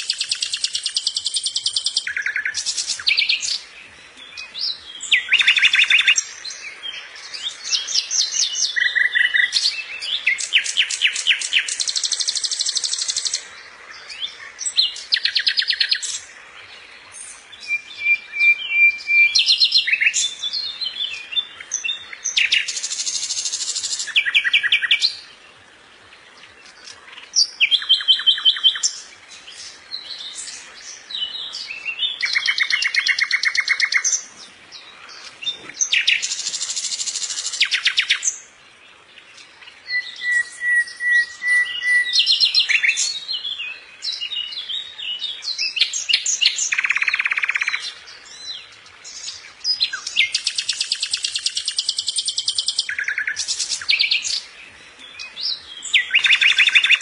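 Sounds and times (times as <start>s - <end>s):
songbird singing trills: 0.0s - 57.0s.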